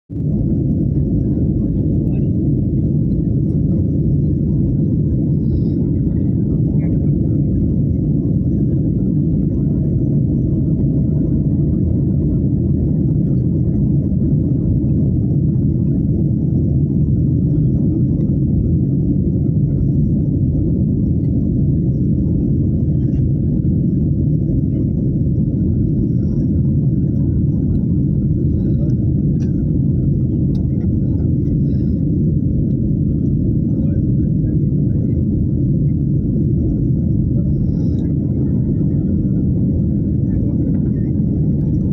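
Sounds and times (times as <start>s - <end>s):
airliner cabin engine rumble: 0.1s - 41.9s.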